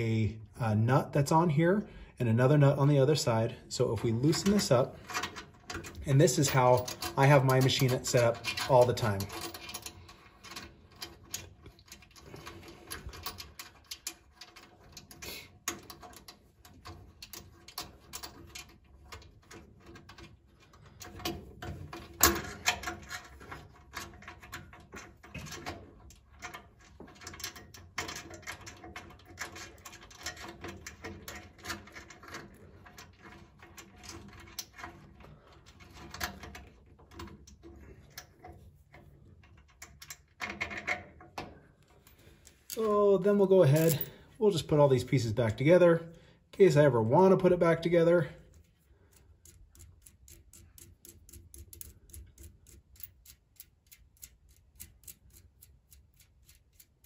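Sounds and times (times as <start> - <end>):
small metal parts clicking: 4.4 - 38.6, 39.4 - 42.9, 43.6 - 44.2, 48.4 - 57.0.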